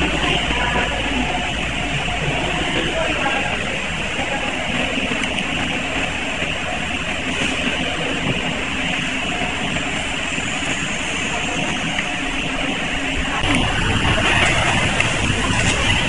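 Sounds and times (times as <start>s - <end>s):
factory machinery din: 0.0s - 16.0s.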